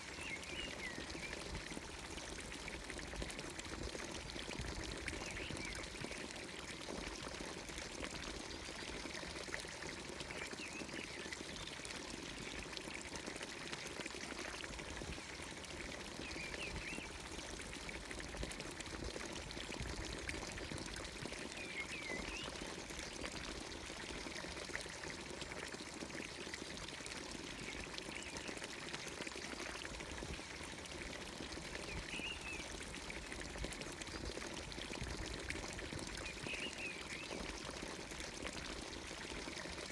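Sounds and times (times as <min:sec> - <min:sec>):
water pouring from fountain spout: 0:00.0 - 0:39.9.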